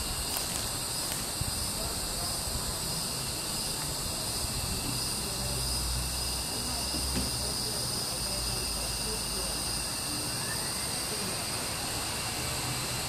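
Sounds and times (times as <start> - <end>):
crickets and night insects: 0.0 - 13.0.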